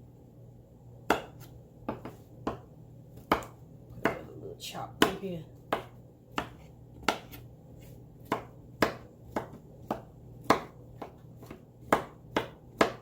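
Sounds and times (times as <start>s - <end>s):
knife chopping on board: 1.1s - 4.3s, 5.0s - 7.5s, 8.2s - 13.0s.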